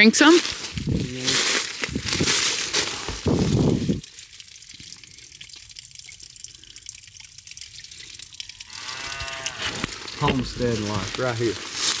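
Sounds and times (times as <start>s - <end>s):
water trickling and dripping: 0.1s - 12.0s.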